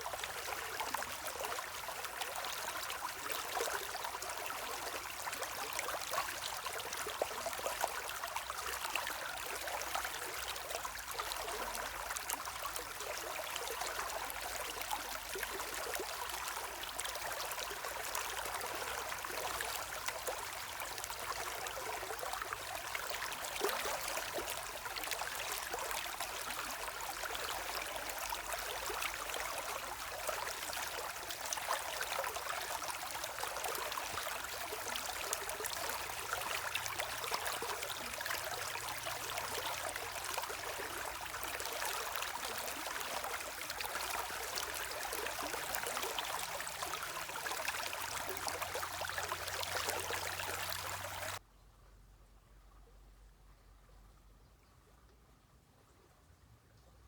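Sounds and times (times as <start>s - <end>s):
stream trickling and bubbling: 0.0s - 57.0s.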